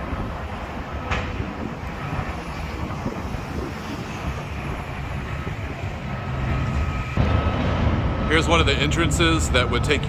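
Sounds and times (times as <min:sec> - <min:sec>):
diesel engines droning: 0:00.0 - 0:10.0.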